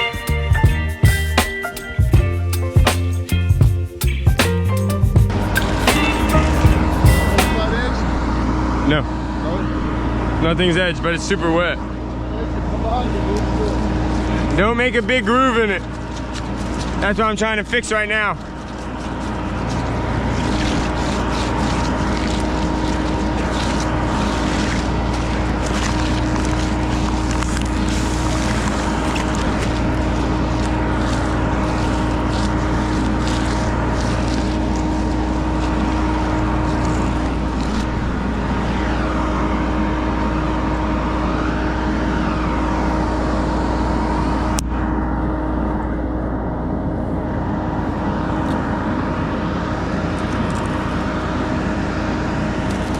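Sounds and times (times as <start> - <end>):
engine running steadily: 0.0 - 52.9.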